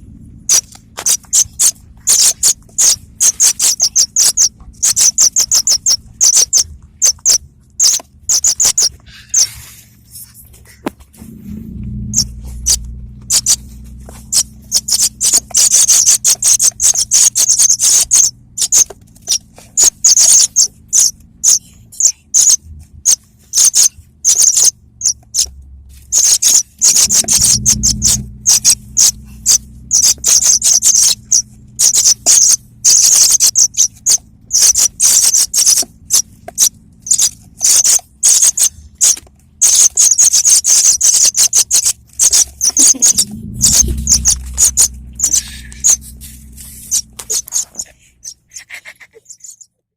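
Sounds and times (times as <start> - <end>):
low steady hum: 0.0 - 39.6, 41.7 - 49.0
young birds chirping: 0.4 - 49.8.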